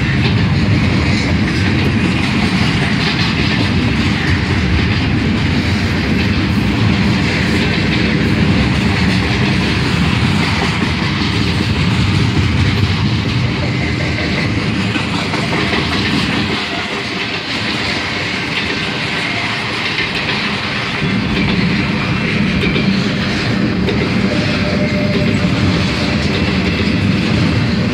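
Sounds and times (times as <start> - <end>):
freight train wheels clacking: 0.0 - 27.9.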